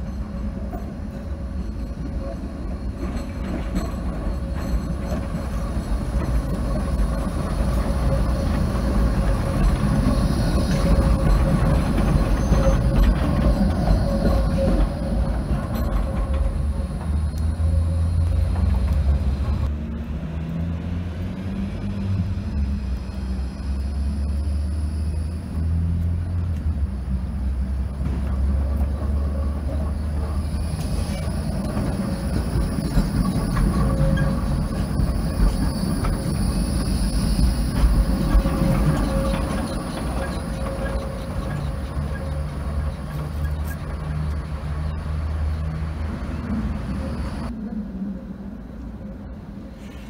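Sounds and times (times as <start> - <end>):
tram wheels rumbling on rails: 0.0 - 50.0.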